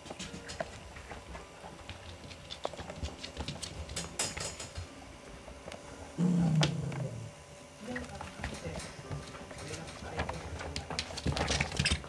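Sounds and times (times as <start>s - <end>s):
puppy chewing rubber toys: 0.0s - 7.2s, 7.8s - 12.0s.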